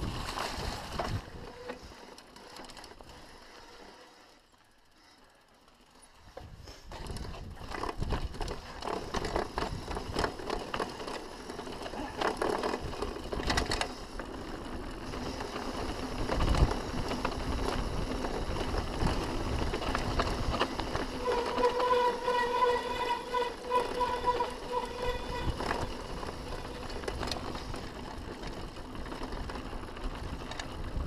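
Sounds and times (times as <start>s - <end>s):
bike frame and chain rattling: 0.0s - 31.0s.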